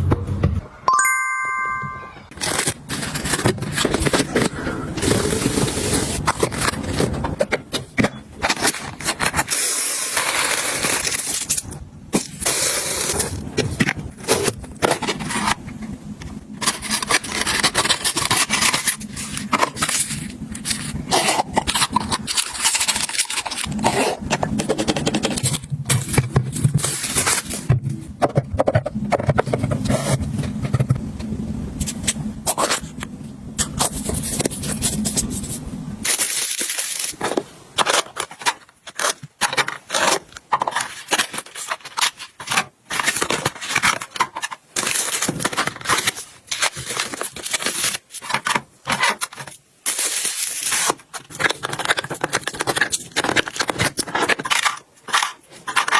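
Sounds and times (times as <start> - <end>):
packaging scraping and rustling: 2.3 - 27.8, 33.6 - 55.9.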